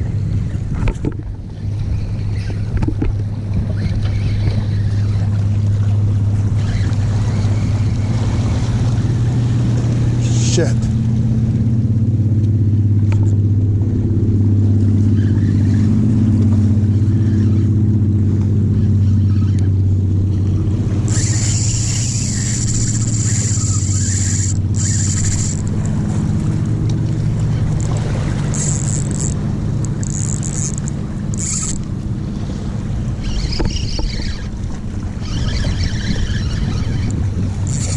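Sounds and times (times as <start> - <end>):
motorboat engine droning: 0.0 - 37.9.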